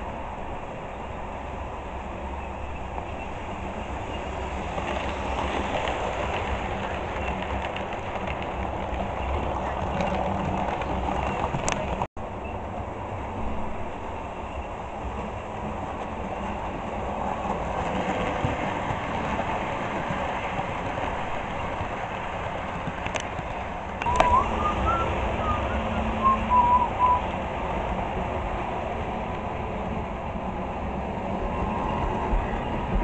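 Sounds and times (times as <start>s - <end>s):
model train rumbling on track: 0.0s - 33.0s.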